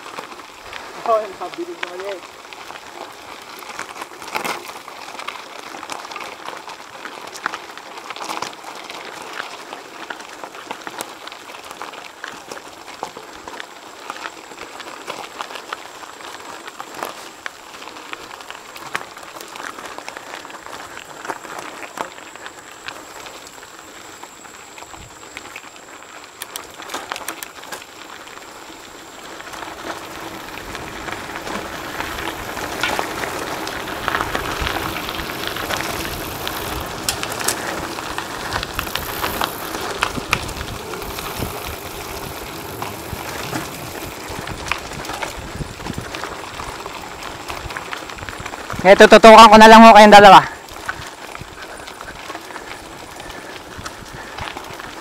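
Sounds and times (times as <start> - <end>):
bike clicks and rattles: 0.0 - 55.0
tyres crunching on gravel: 0.0 - 55.0.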